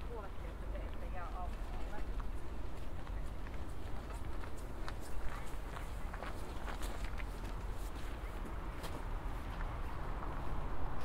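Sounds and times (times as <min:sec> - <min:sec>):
bicycle tyres rolling on road: 0:00.0 - 0:11.0.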